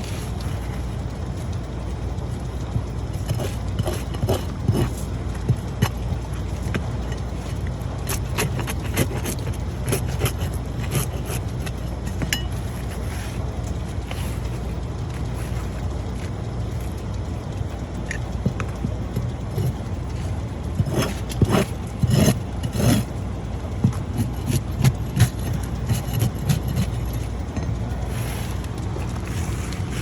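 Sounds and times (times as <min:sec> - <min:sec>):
scrapes clicks and clinks: 0:00.0 - 0:30.0.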